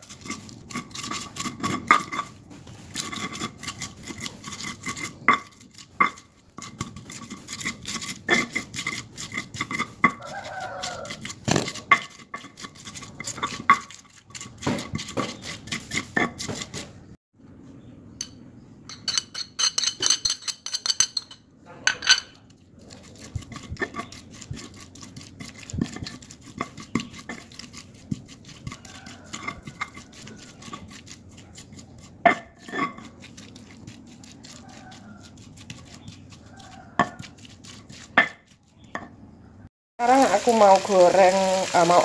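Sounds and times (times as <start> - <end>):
pestle grinding in stone mortar: 0.0 - 17.1, 18.9 - 39.3.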